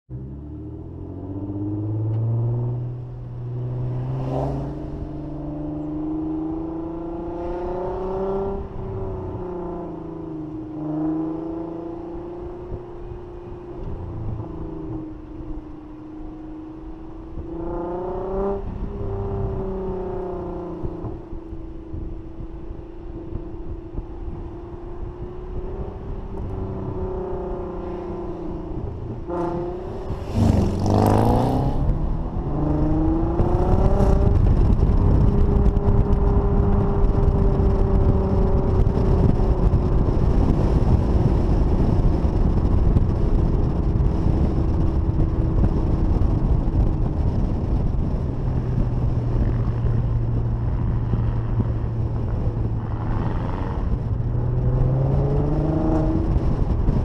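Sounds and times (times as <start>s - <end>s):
car engine accelerating: 0.1s - 57.0s.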